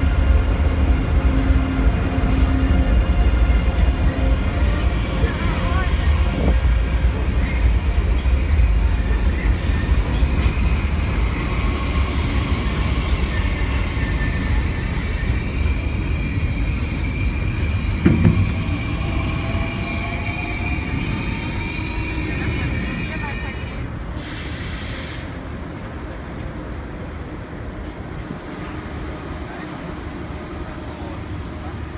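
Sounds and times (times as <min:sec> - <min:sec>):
train rumbling across bridge: 0:00.0 - 0:31.9.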